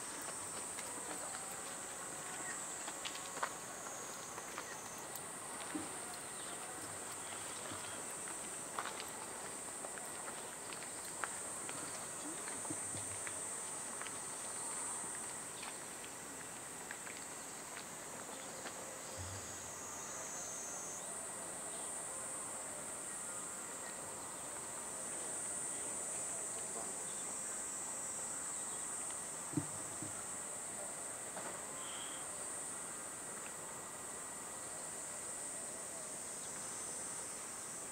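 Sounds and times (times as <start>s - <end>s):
cicadas buzzing: 0.0s - 37.9s.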